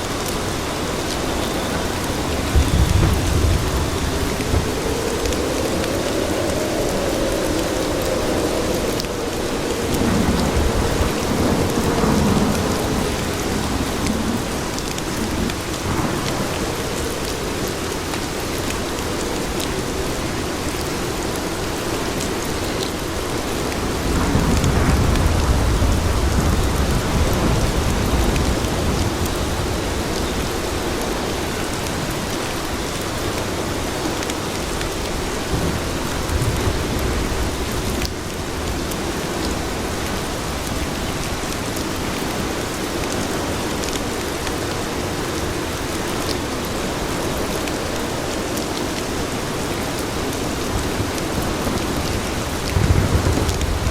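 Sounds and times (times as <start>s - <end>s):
rain falling on pavement: 0.0s - 53.9s
thunder rumbling: 0.0s - 53.9s.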